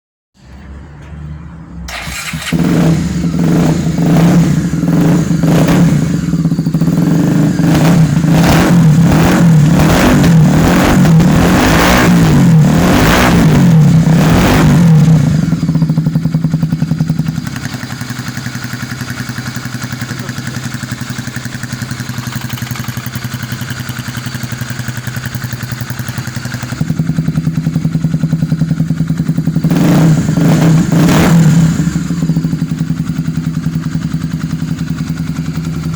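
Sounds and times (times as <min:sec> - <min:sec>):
motorcycle engine revving and idling: 0:00.4 - 0:35.9.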